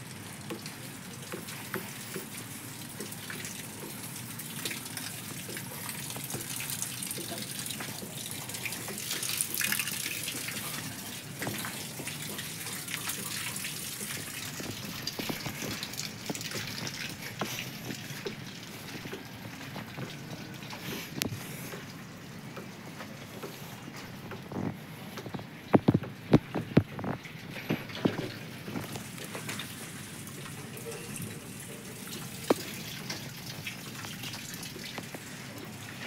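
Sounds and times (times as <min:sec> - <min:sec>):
rainwater dripping off truck: 0:00.0 - 0:36.0.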